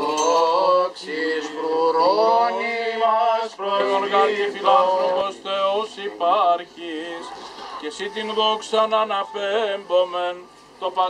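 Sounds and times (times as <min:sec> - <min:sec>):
men singing chant: 0:00.0 - 0:11.0.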